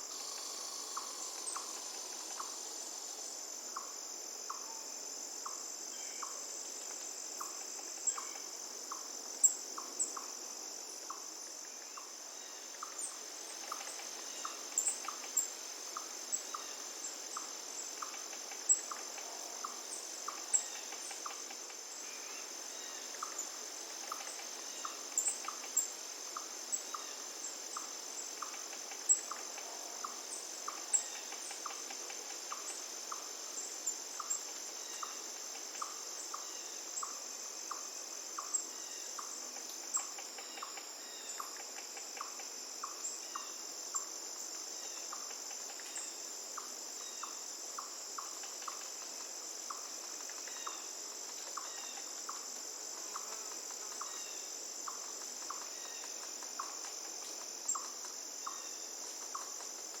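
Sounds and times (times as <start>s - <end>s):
insects trilling: 0.0s - 60.0s.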